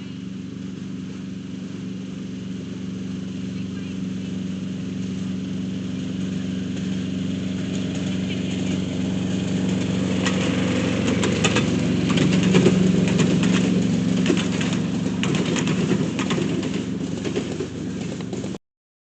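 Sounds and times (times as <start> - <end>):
miniature locomotive engine running: 0.0 - 18.6.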